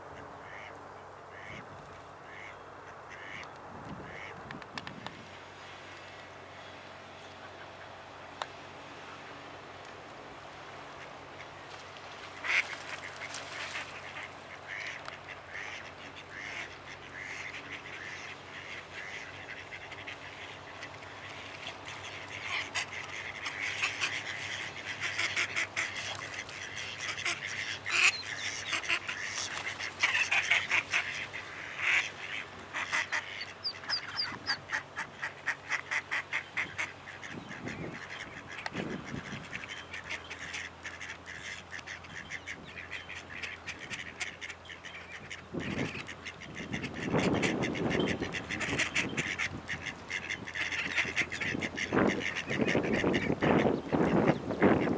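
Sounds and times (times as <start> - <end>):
ducks quacking: 0.1 - 4.4, 6.0 - 54.9.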